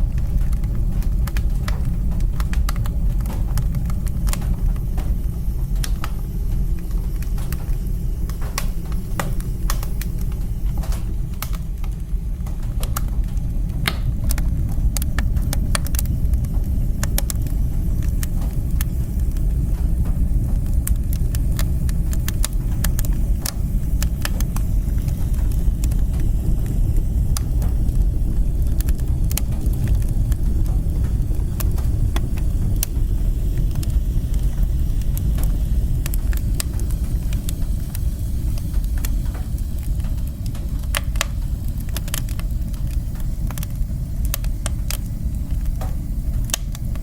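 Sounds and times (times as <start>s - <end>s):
fire crackling and popping: 0.0s - 47.0s
fire rumbling: 0.0s - 47.0s.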